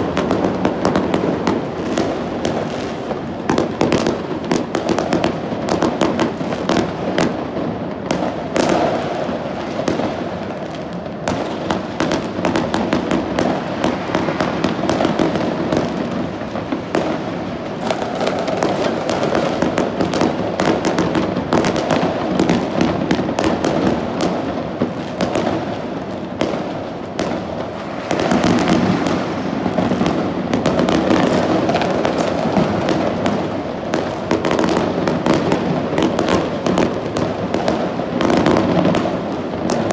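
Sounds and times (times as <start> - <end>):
fireworks and firecrackers barrage: 0.0 - 39.9.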